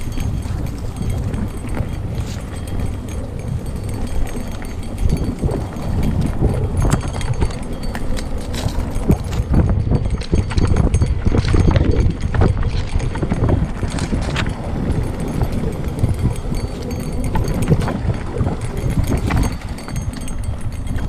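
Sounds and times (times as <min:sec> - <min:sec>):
bike rattling over bumps: 0:00.0 - 0:21.0
bike tyres rumbling on dirt: 0:00.0 - 0:21.0.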